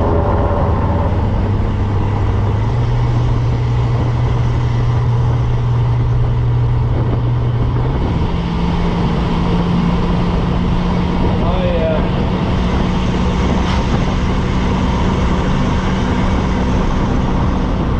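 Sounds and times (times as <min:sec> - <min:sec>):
car engine running: 0:00.0 - 0:17.9
road noise: 0:00.0 - 0:17.9.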